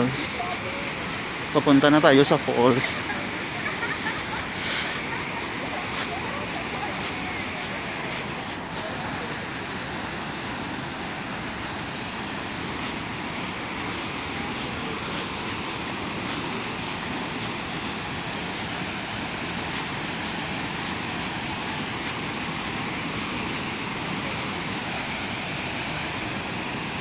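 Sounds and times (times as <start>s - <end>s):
waterfall roar: 0.0s - 27.0s.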